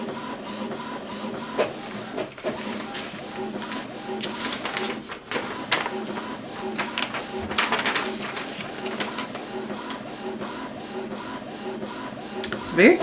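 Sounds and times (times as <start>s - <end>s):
printer head whirring: 0.0s - 13.0s
printer paper feed clicks: 0.0s - 13.0s.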